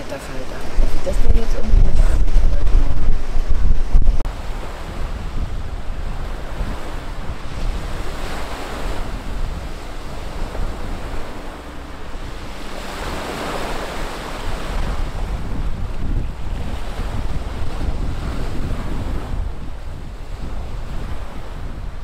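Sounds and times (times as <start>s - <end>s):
wind buffeting microphone: 0.0s - 22.0s
waves breaking on pebble shore: 4.3s - 22.0s.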